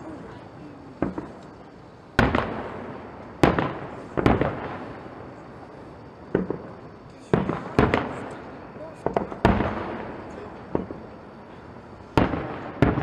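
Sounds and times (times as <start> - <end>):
fireworks bursting with echoes: 0.0 - 13.0.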